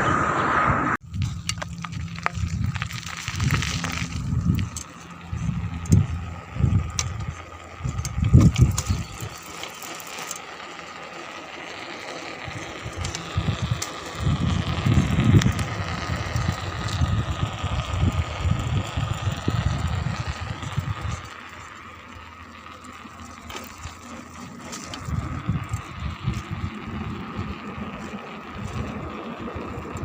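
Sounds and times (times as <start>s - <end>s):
wind buffeting microphone: 0.0s - 9.5s, 12.4s - 21.4s, 23.5s - 30.0s
faint steady whine: 0.0s - 30.0s
bicycle being ridden: 1.0s - 30.0s.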